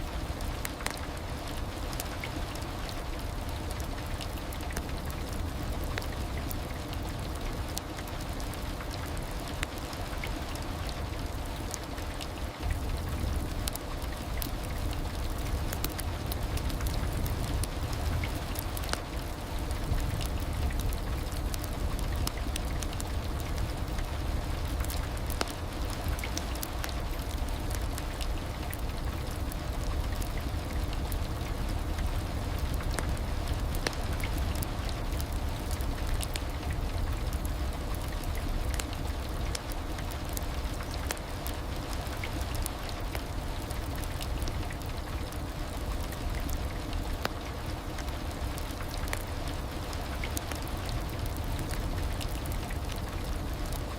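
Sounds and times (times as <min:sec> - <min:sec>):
heavy rain: 0:00.0 - 0:53.9
raindrop ticks: 0:00.1 - 0:53.9.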